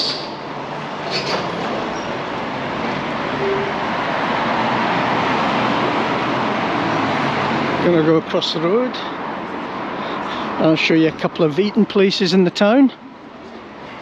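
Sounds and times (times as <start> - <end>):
road vehicle going by: 0.0 - 11.8.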